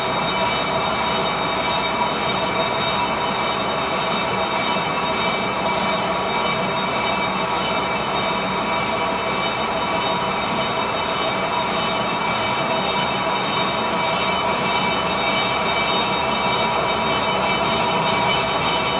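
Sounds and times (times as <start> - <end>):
lathe machine running: 0.0 - 18.9
lathe tool screeching on metal: 0.0 - 18.9.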